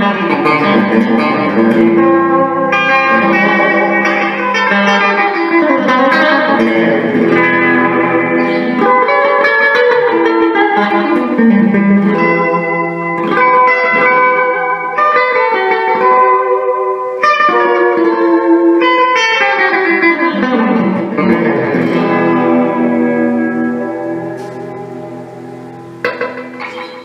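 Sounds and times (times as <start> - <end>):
electric guitar with echo delay: 0.0 - 27.0.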